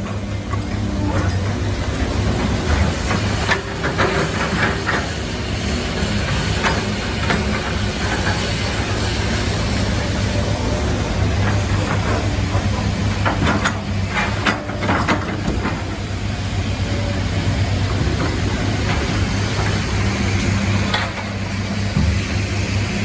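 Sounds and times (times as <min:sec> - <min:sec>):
heavy vehicle engine humming: 0:00.0 - 0:23.0.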